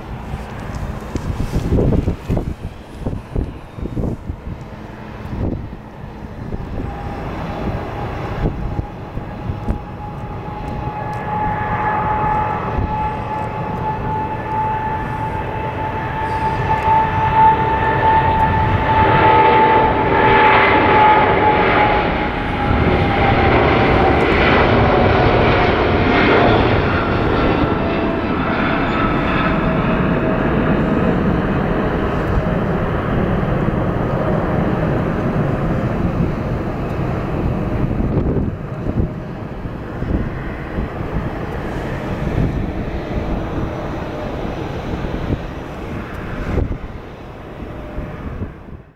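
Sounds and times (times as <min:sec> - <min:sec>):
jet engines taking off: 0:00.0 - 0:48.9.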